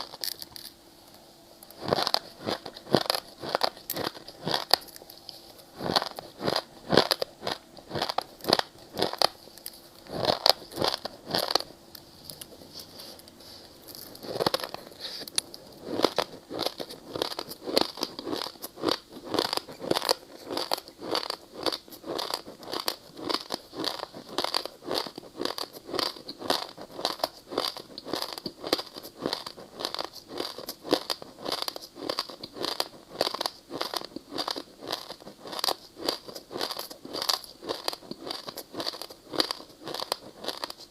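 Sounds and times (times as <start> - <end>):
person chewing ice: 0.0 - 0.7, 1.6 - 40.9.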